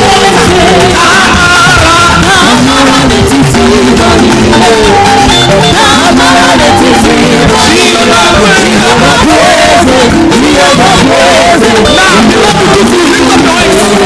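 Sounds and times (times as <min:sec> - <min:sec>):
band with steady drums: 0:00.0 - 0:14.0
choir singing praise song: 0:00.0 - 0:14.0.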